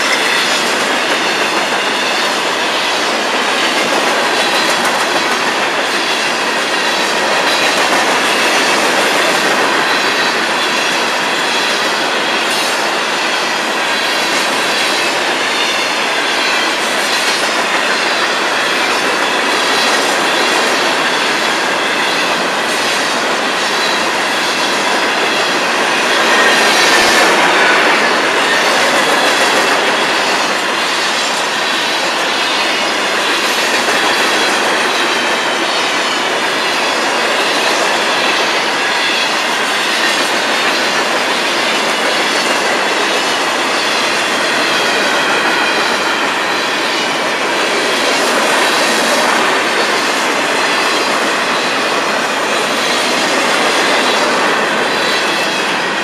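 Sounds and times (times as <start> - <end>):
freight train wheels rumbling: 0.0 - 56.0
wheels clacking on rails: 0.0 - 56.0.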